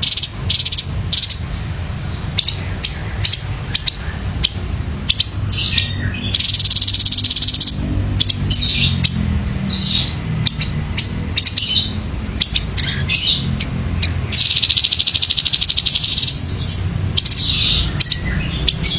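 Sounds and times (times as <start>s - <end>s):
bird singing: 0.0s - 18.9s
buzzy bird trills: 0.0s - 18.9s
steady low hum: 0.0s - 18.9s.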